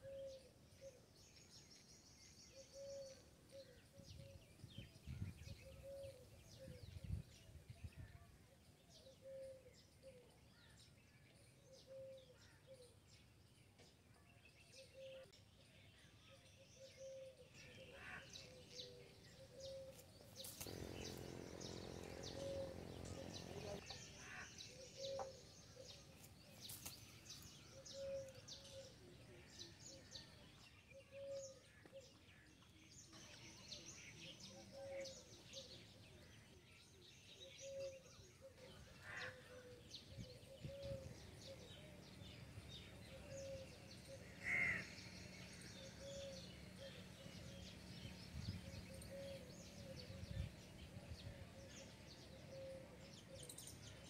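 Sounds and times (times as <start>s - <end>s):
bird chirp: 0.0s - 54.0s.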